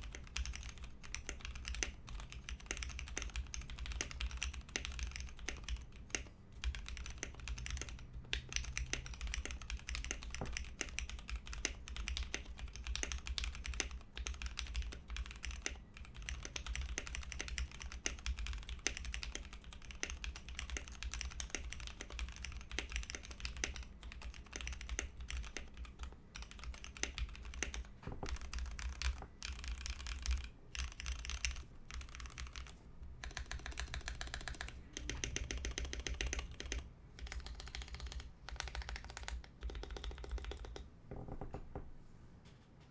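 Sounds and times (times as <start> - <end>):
fast mechanical keyboard typing: 0.0 - 40.9
low background hum: 0.0 - 42.9.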